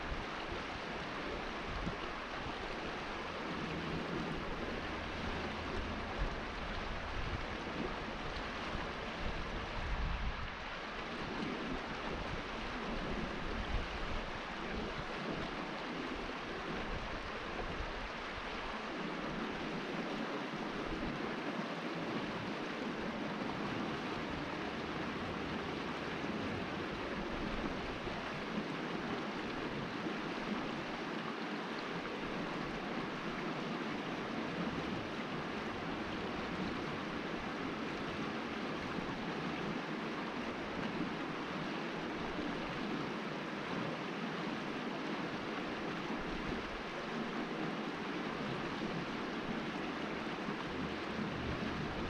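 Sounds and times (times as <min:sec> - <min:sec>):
creek water flowing over rocks: 0:00.0 - 0:52.0.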